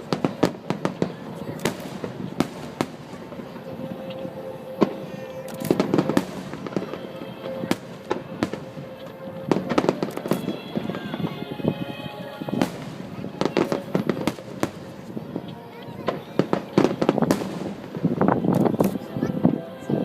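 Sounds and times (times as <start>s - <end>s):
fireworks bangs and crackling: 0.0s - 19.6s
music playing: 0.0s - 20.0s.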